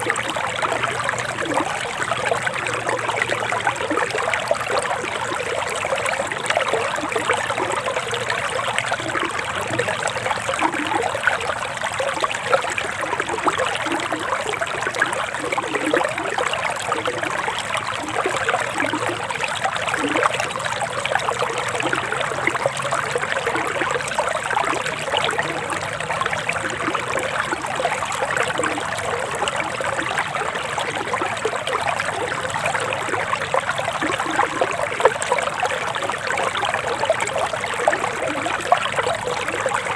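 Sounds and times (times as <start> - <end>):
river water flowing and trickling: 0.0 - 39.9.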